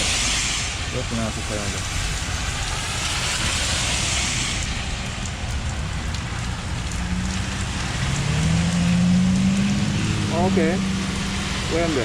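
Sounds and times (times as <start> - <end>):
rain hissing: 0.0 - 12.0
street traffic: 0.0 - 12.0.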